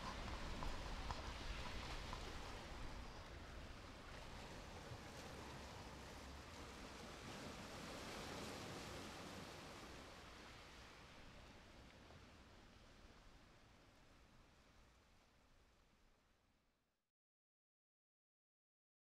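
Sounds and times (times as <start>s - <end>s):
distant sea surf: 0.0s - 15.3s.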